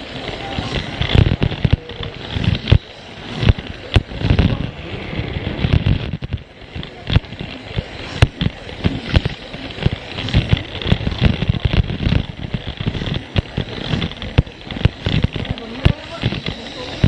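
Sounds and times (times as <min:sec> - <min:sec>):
toy train rattling on track: 0:00.0 - 0:17.0.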